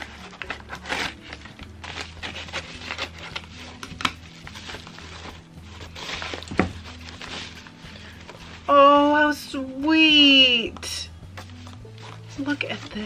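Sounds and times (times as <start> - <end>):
paper envelope crinkling: 0.0 - 8.8, 11.4 - 13.0.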